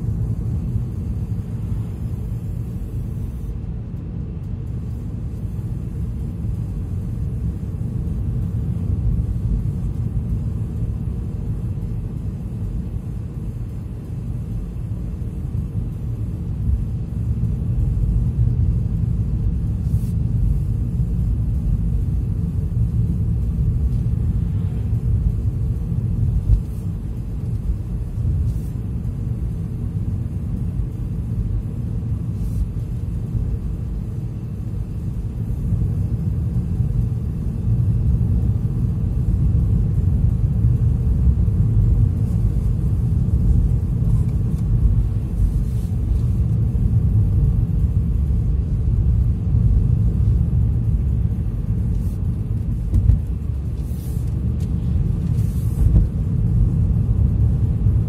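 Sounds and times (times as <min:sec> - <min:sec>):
car driving road rumble: 0:00.0 - 0:58.0.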